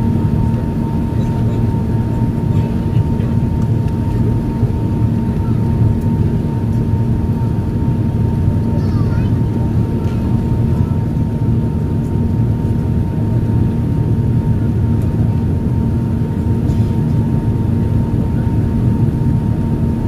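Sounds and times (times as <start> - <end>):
airplane cabin engine roar: 0.0 - 20.0.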